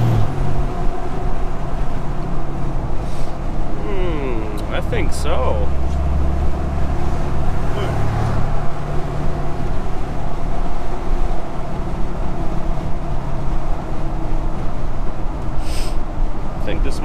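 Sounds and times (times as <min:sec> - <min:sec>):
engine and road noise drone: 0:00.0 - 0:17.0.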